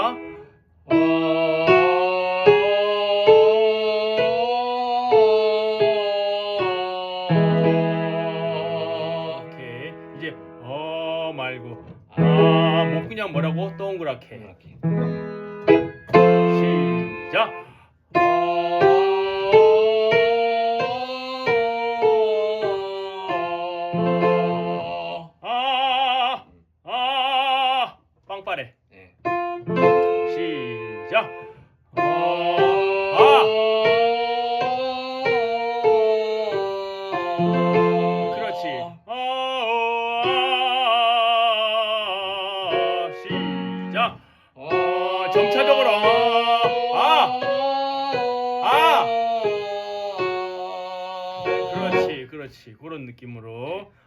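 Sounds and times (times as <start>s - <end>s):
person singing a scale: 0.0s - 14.0s, 16.1s - 28.0s, 29.8s - 52.3s
piano notes: 0.0s - 25.2s, 29.2s - 39.0s, 39.6s - 52.3s.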